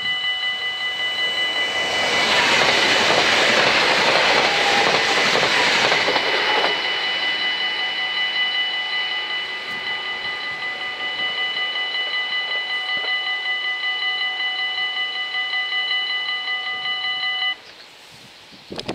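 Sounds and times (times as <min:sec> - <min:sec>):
level crossing warning bells ringing: 0:00.0 - 0:17.7.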